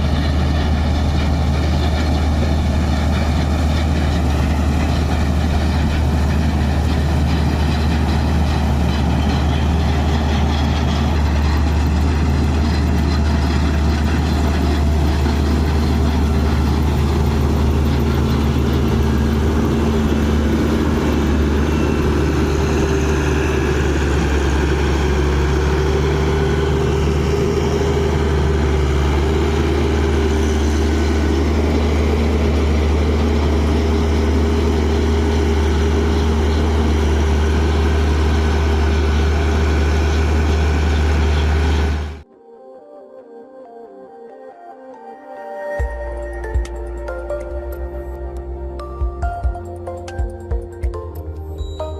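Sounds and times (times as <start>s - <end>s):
combine harvester diesel engine: 0.0s - 42.3s.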